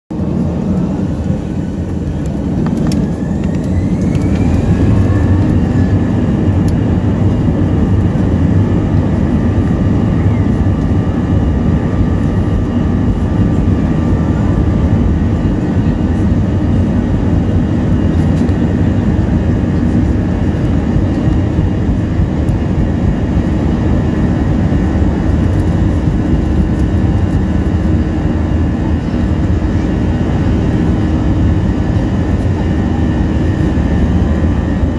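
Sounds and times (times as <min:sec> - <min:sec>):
jet engines whining and roaring: 0:00.1 - 0:34.9.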